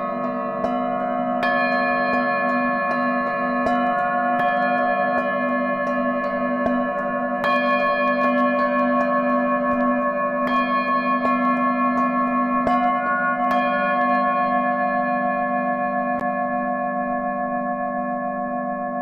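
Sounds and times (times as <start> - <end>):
layered hum of ringing bowls: 0.0 - 19.0
singing bowls struck with mallets: 0.0 - 19.0.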